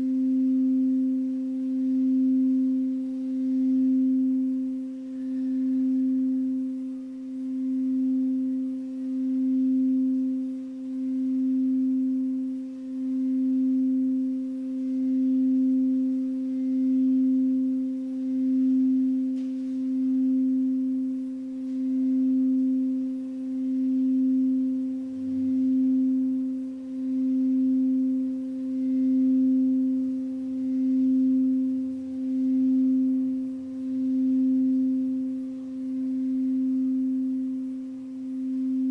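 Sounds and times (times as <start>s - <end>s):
singing bowl tone: 0.0s - 38.9s.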